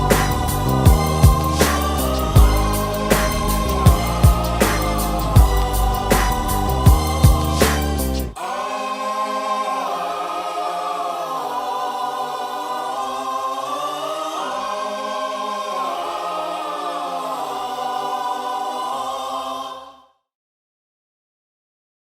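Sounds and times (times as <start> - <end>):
choir singing sustained chords: 0.0 - 20.2.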